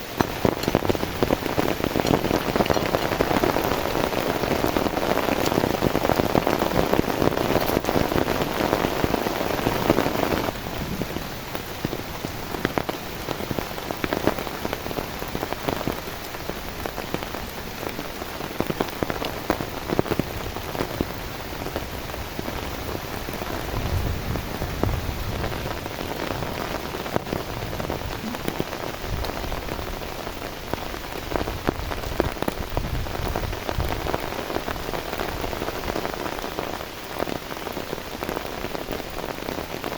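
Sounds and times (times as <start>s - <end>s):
heavy rain on a surface: 0.0s - 39.9s
raindrops ticking: 0.0s - 39.9s.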